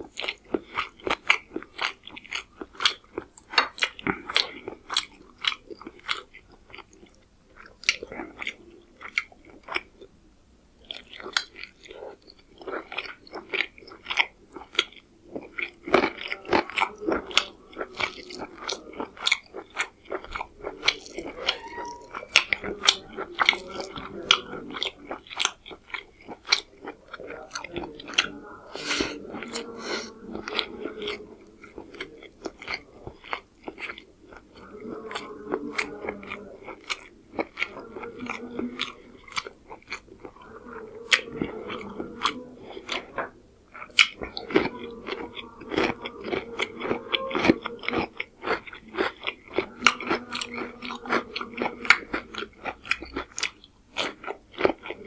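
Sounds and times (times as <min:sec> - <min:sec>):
wet chewing and lip smacks: 0:00.0 - 0:10.1, 0:10.8 - 0:55.0.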